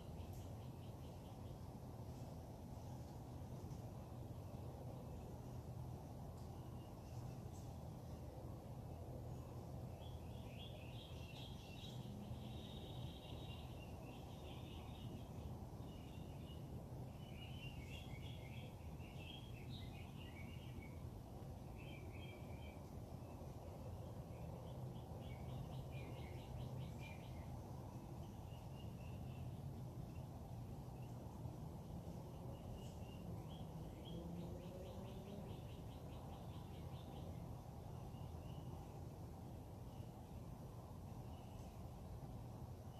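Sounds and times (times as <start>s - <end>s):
songbirds singing faintly: 0.0s - 42.9s.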